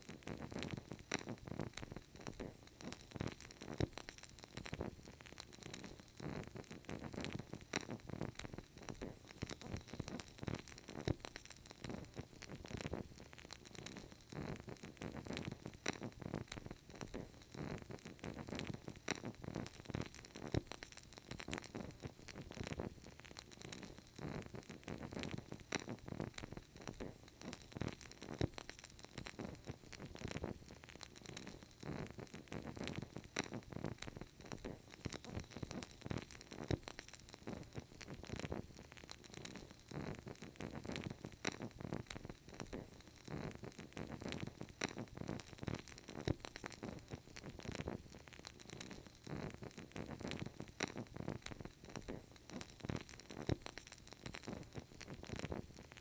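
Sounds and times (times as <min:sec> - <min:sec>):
candle flame crackling: 0:00.0 - 0:56.0.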